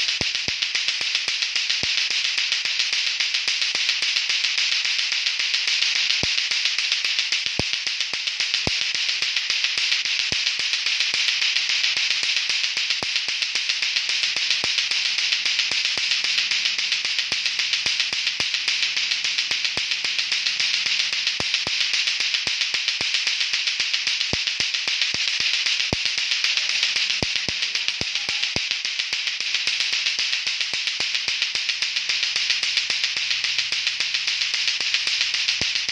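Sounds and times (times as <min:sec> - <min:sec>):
plastic balls clacking: 0:00.0 - 0:35.9.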